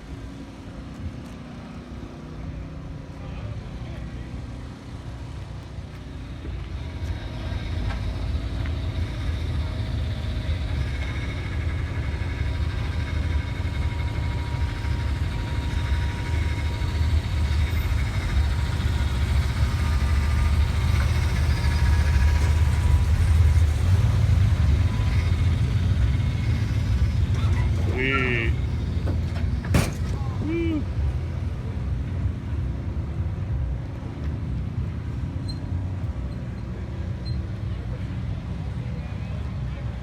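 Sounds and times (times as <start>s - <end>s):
car engine rumbling: 4.7s - 39.4s.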